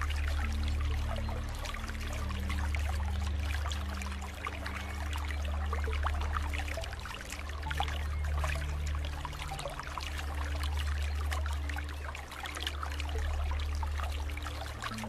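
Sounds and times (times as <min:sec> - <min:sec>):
low droning hum: 0:00.0 - 0:15.0
water bubbling and trickling: 0:00.0 - 0:15.0.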